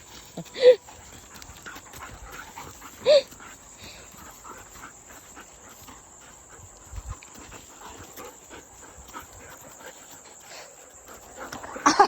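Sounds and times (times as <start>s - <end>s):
faint movement noises: 0.0s - 12.0s.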